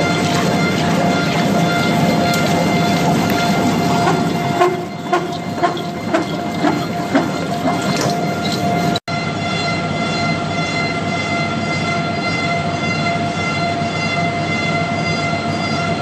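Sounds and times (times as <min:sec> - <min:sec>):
lathe mechanical whine: 0:00.0 - 0:16.0.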